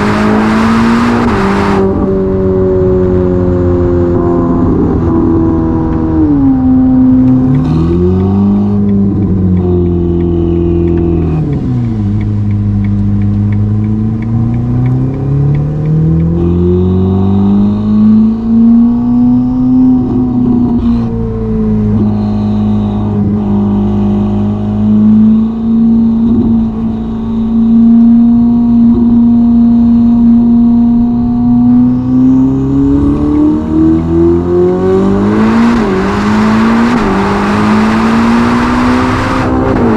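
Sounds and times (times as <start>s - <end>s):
car engine from inside cabin: 0.0s - 39.9s.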